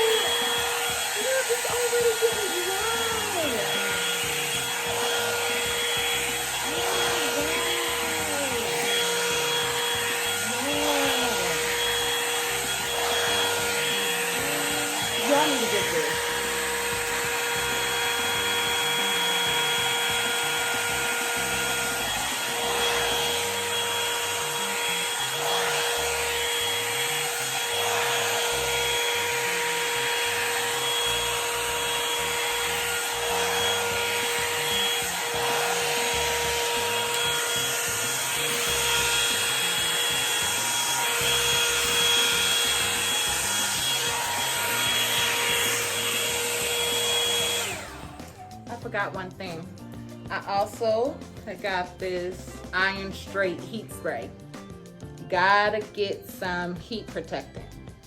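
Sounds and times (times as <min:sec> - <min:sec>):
motor whine: 0:00.0 - 0:48.7
hair dryer blowing air: 0:00.0 - 0:58.0.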